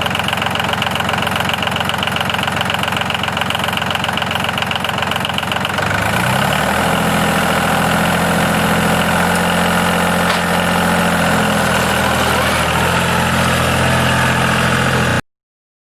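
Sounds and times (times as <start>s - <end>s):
tractor engine running: 0.0s - 15.2s.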